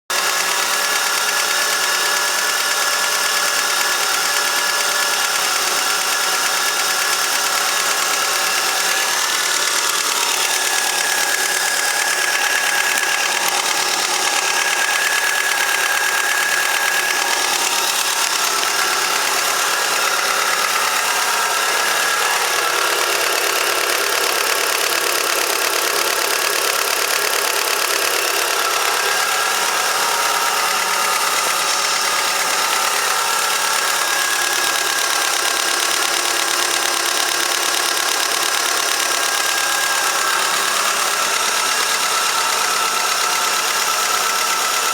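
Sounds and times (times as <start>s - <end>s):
petrol engine idling: 0.1s - 44.9s.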